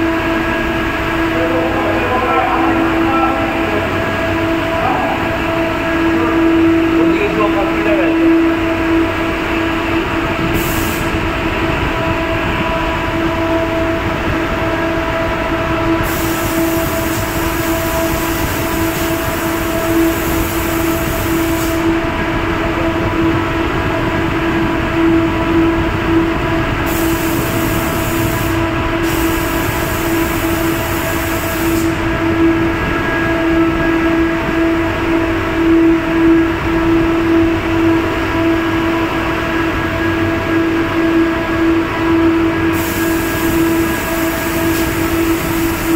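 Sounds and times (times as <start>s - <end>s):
machinery drone and hum: 0.0s - 45.9s.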